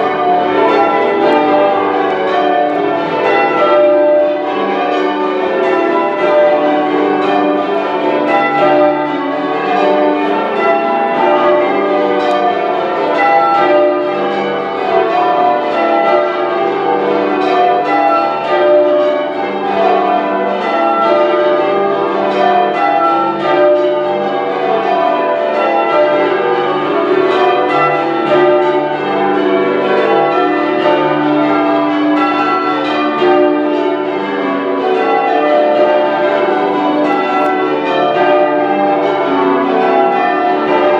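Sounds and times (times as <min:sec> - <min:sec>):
church bells change ringing: 0:00.0 - 0:40.9.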